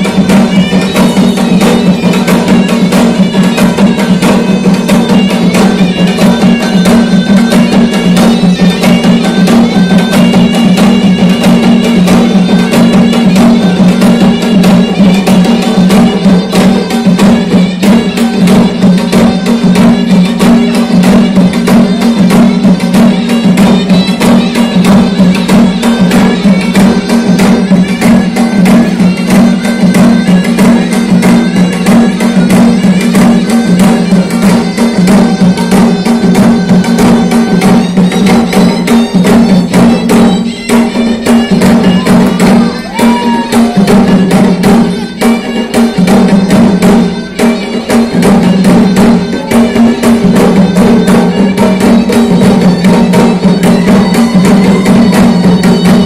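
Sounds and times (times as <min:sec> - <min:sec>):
folk dance music: 0:00.0 - 0:56.0
quick percussion beat: 0:00.0 - 0:56.0.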